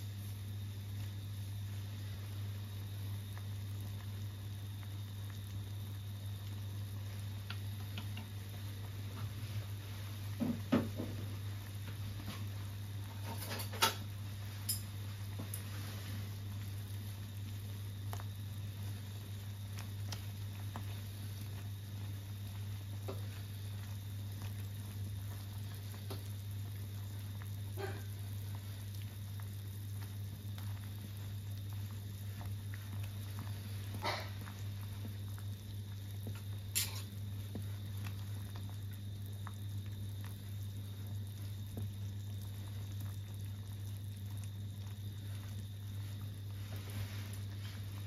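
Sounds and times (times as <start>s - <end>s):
soup bubbling: 0.0s - 48.0s.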